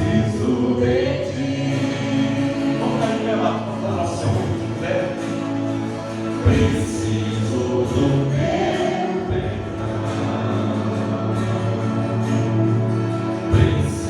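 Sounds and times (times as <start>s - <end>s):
choir singing gospel song: 0.0s - 14.0s.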